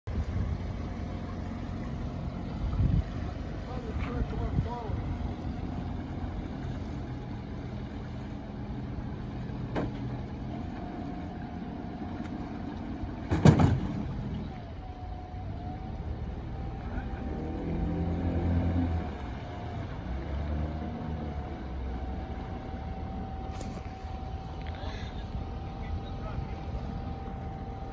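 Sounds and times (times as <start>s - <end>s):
boat engine humming and whining: 0.1s - 27.9s.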